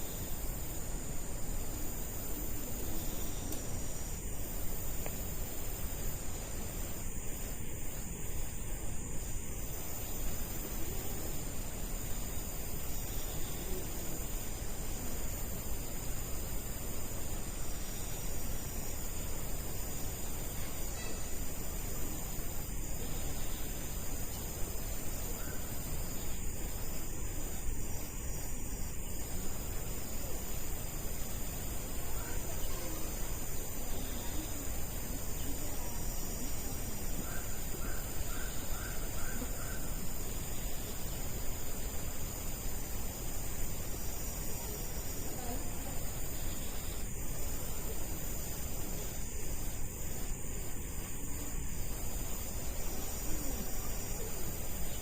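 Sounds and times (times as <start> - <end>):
insects shrilling: 0.0 - 55.0.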